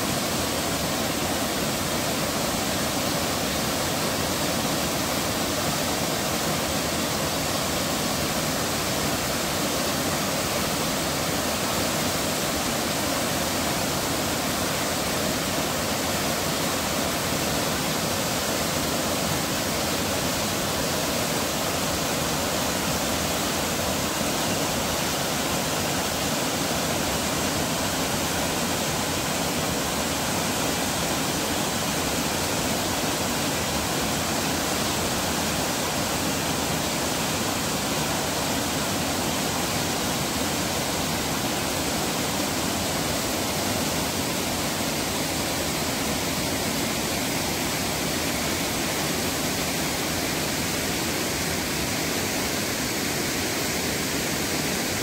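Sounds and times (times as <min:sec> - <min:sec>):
waterfall rushing over boulders: 0:00.0 - 0:55.0.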